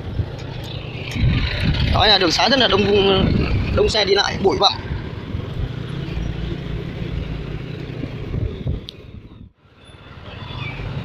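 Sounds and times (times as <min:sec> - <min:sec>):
road and wind noise: 0:00.0 - 0:11.0
vehicle engine hum: 0:00.0 - 0:11.0.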